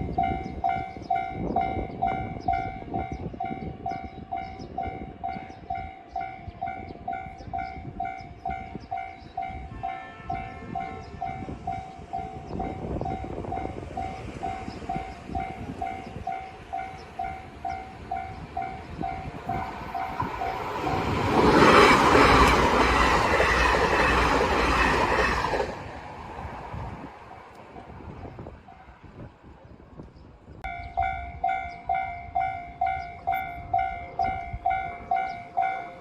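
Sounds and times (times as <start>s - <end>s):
railroad crossing bell dinging: 0.0s - 25.0s, 30.6s - 36.0s
electric train passing: 0.0s - 29.6s, 30.6s - 36.0s.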